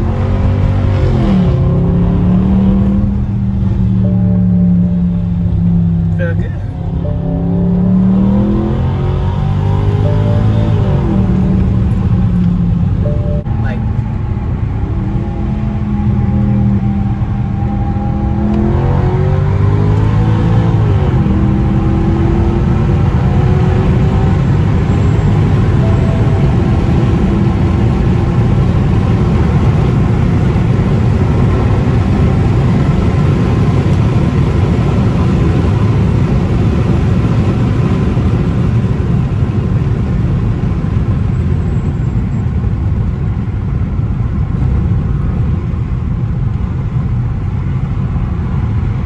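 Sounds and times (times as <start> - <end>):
car engine: 0.0 - 49.0
road noise while driving: 0.0 - 49.0.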